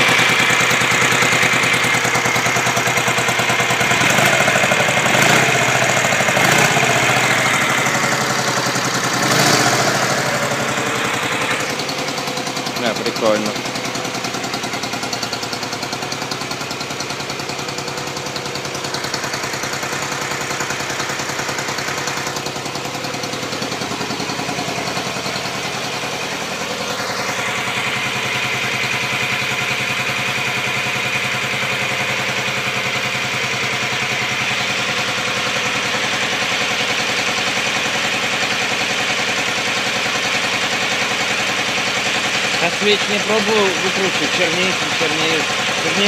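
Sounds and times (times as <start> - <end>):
motorcycle engine running and revving: 0.0 - 46.0.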